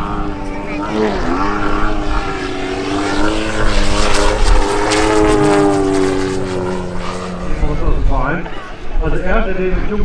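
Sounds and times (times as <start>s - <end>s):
model airplane engine droning: 0.0s - 10.0s.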